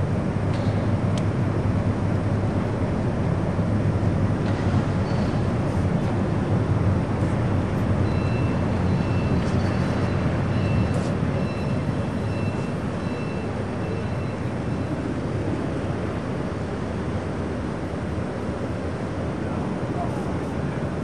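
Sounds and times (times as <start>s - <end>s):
ship engines deep rumble: 0.0s - 21.0s.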